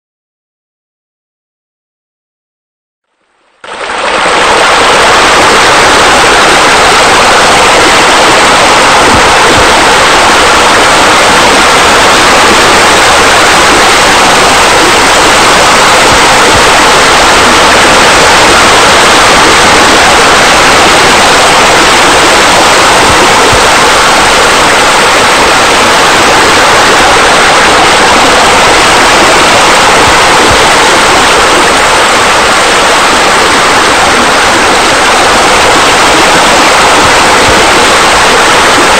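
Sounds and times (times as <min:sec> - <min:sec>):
falling water splashing: 0:03.6 - 0:38.9.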